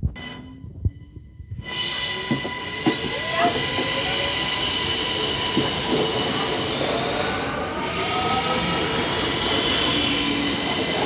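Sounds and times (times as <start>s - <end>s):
train running and wheel noise: 0.1s - 11.0s.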